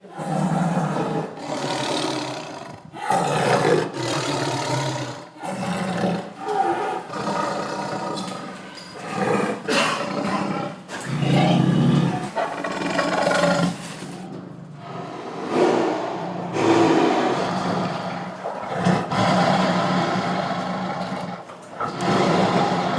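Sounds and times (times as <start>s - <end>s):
tiger roaring and growling: 0.0s - 22.9s.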